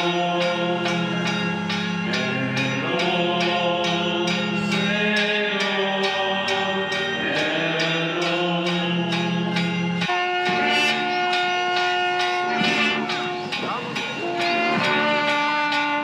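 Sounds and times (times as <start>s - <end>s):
music with steady beat: 0.0s - 16.0s
voices singing: 0.0s - 16.0s.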